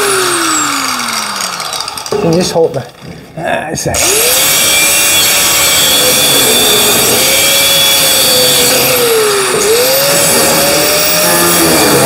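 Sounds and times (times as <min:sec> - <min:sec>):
angle grinder grinding steel: 0:00.0 - 0:03.1, 0:03.9 - 0:12.0.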